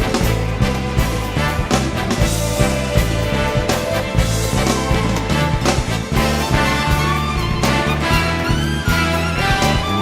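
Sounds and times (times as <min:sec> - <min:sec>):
upbeat band music: 0:00.0 - 0:10.0.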